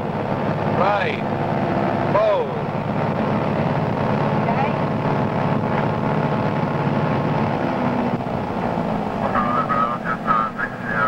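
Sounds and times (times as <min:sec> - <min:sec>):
aircraft engines running steadily: 0:00.0 - 0:11.0.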